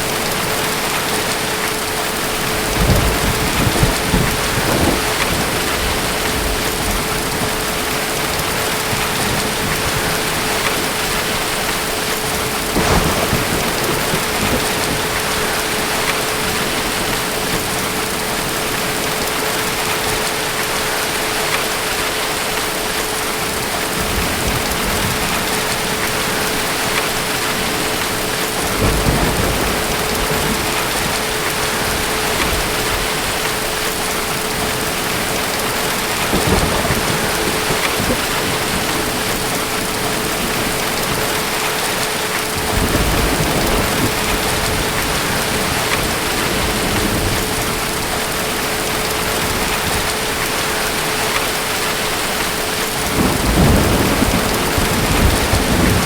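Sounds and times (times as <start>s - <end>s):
heavy rain: 0.0s - 56.0s
distant thunder rolling: 2.2s - 20.3s, 23.8s - 56.0s.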